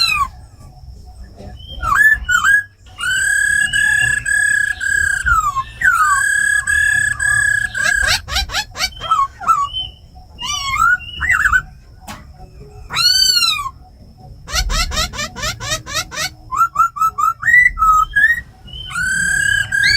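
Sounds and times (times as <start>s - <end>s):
bird singing whistles and trills: 0.0s - 19.9s.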